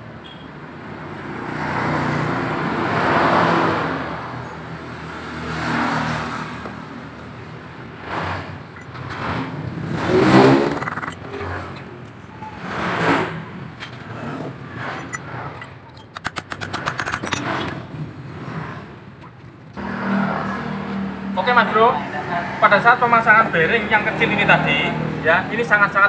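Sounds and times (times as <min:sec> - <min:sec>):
motor vehicles passing: 0:00.8 - 0:26.0.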